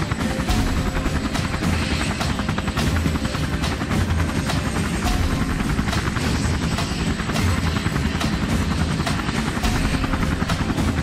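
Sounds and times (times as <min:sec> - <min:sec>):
helicopter rotor blades chopping: 0:00.0 - 0:11.0
low engine drone: 0:00.0 - 0:11.0.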